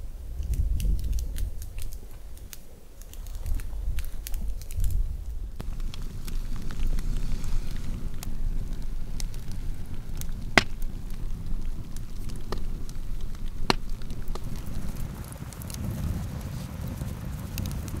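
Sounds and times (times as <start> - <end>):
campfire crackling: 0.0 - 18.0
fire popping: 0.0 - 18.0
low rumble: 3.1 - 18.0.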